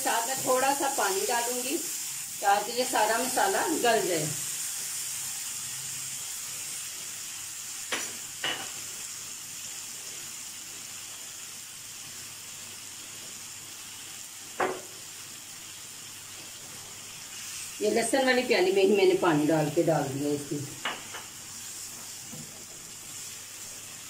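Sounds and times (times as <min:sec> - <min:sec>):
masala sizzling in hot oil: 0:00.0 - 0:24.0.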